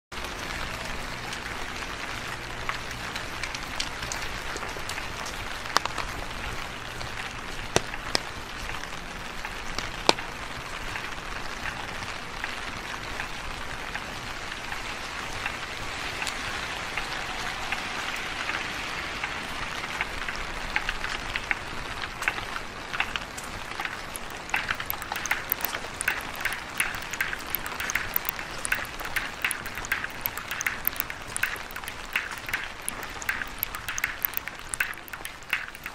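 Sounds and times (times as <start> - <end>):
drips and splashes: 0.2 - 35.9
rain on wet pavement: 0.2 - 35.9.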